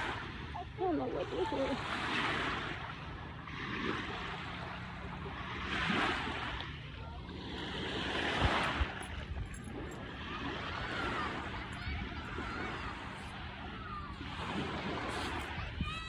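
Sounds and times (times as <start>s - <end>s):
small waves washing on shore: 0.0s - 16.0s.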